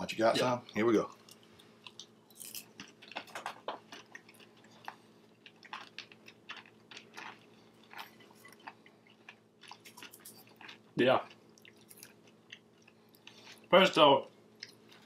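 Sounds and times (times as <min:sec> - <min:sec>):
people chewing crunchy snacks: 0:01.2 - 0:13.7, 0:14.5 - 0:15.0.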